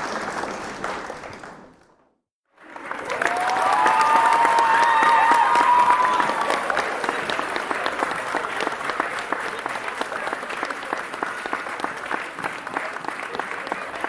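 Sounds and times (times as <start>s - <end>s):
crowd applauding: 0.0s - 1.9s, 2.5s - 14.0s.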